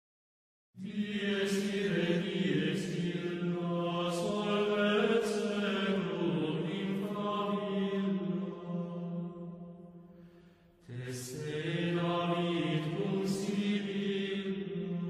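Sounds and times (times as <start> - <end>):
person chanting in a low voice: 0.8 - 9.4, 10.8 - 15.0.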